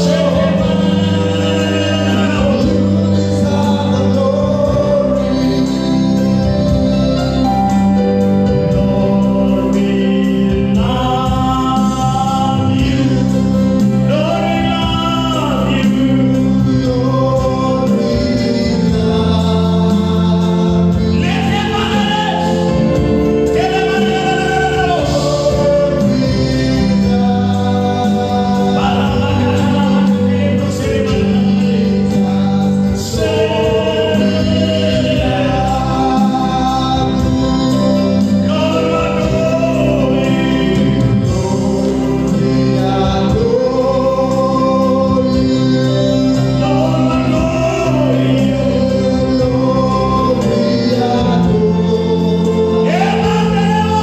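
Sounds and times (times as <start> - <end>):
group singing gospel: 0.0 - 54.0
keyboard accompaniment: 0.0 - 54.0.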